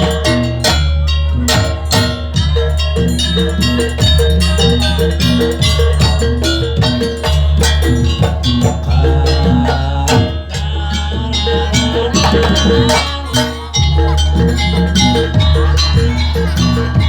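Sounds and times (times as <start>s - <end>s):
drums: 0.0s - 17.0s
high wavering melody: 0.0s - 17.0s.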